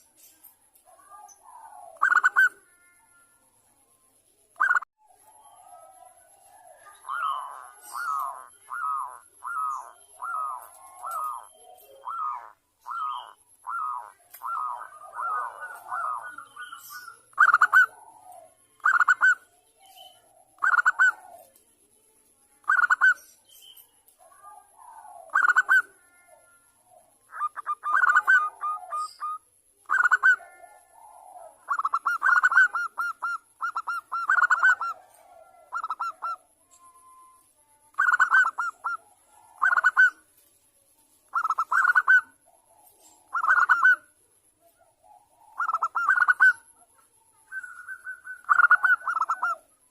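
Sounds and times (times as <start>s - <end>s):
dove cooing: 0.8s - 3.1s, 4.6s - 21.6s, 24.2s - 40.3s, 41.3s - 49.9s.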